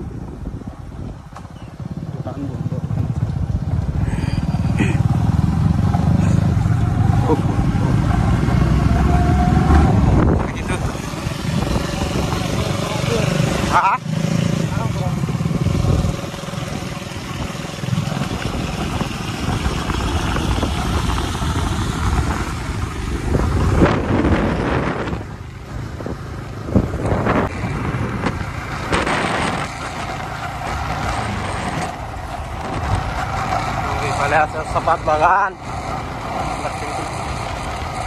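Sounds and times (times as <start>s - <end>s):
motorcycle engines cruising: 0.0s - 38.0s
wind and road noise on microphone: 0.0s - 38.0s.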